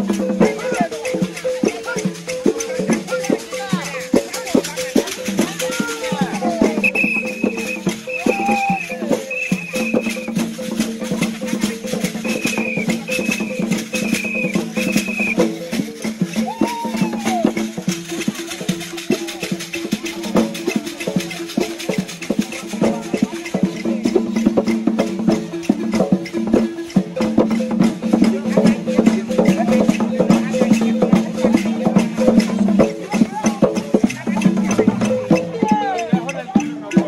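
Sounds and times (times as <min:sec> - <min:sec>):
rattles and percussion: 0:00.0 - 0:37.0
wooden xylophone: 0:00.0 - 0:37.0.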